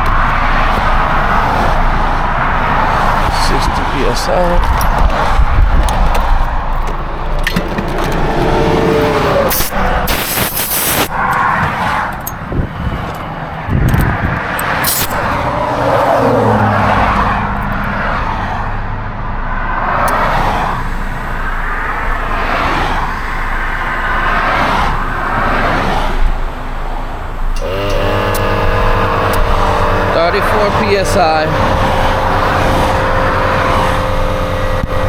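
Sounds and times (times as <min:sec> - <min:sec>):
low engine hum: 0:00.0 - 0:35.0
vehicles passing: 0:00.0 - 0:35.0.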